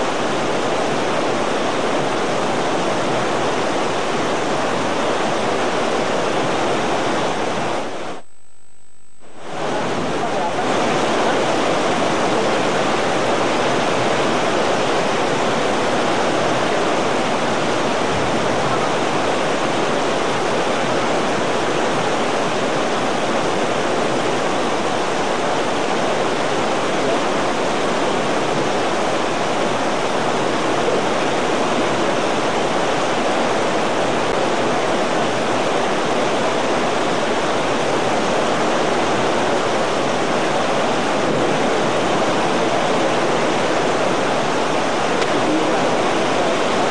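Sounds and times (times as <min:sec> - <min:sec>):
heavy rain pouring: 0:00.0 - 0:08.2, 0:09.4 - 0:46.9.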